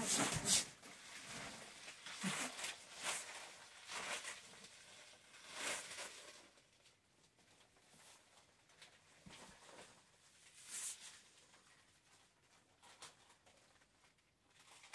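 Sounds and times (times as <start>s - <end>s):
plastic dress rustling: 0.0s - 14.9s.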